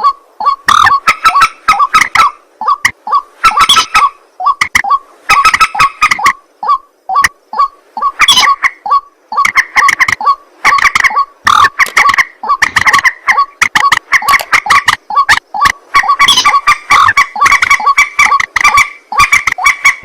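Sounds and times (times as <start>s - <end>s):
rail bird honking calls: 0.0s - 20.0s.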